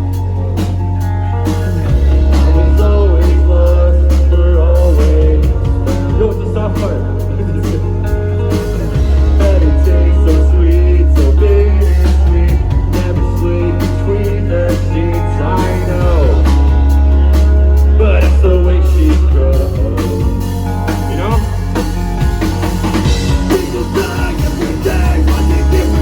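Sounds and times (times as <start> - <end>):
bending melodic line: 0.0 - 26.0
loud rock band playing: 0.0 - 26.0.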